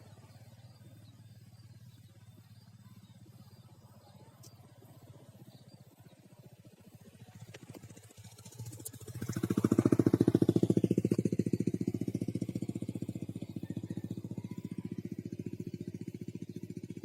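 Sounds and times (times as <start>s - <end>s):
small engine puttering: 0.0s - 17.0s.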